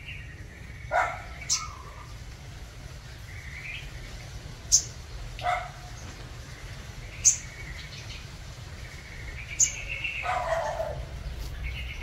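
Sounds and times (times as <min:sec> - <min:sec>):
bird high chirps: 0:00.0 - 0:02.2, 0:03.2 - 0:12.0.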